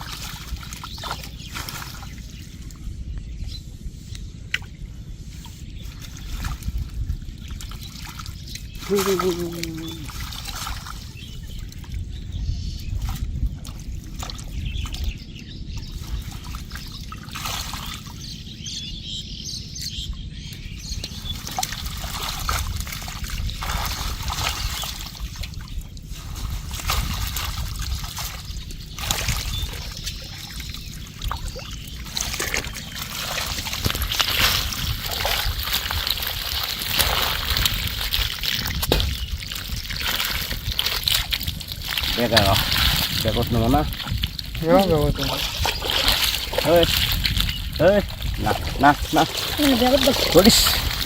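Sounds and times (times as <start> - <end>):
water trickling and splashing: 0.0 - 3.1, 4.0 - 51.0.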